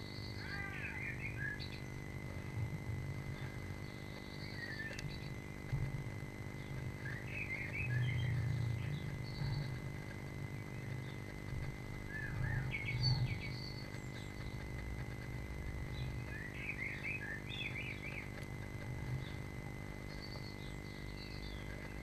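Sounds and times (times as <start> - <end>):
electrical hum: 0.0 - 22.0
small birds chirping: 0.0 - 22.0.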